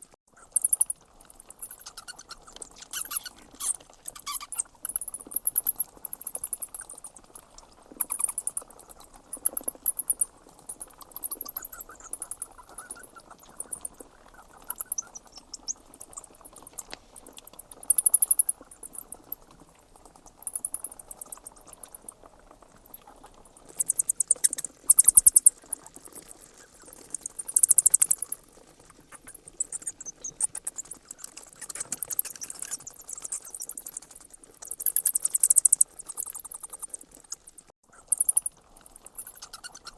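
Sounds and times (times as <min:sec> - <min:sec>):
bats squeaking: 0:00.4 - 0:19.8, 0:20.4 - 0:39.9.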